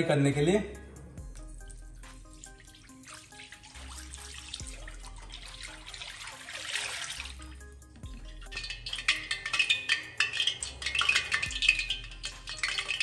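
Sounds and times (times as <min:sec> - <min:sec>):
soft background music: 0:00.0 - 0:13.0
oil pouring into a wok: 0:01.4 - 0:13.0.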